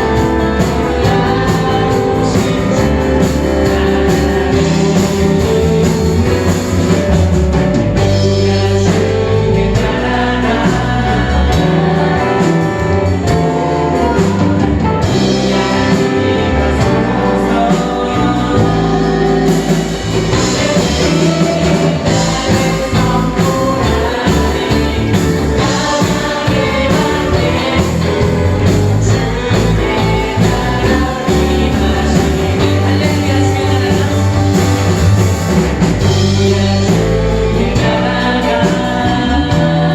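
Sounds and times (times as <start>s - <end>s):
group singing worship song: 0.0s - 39.9s
live band accompaniment: 0.0s - 39.9s.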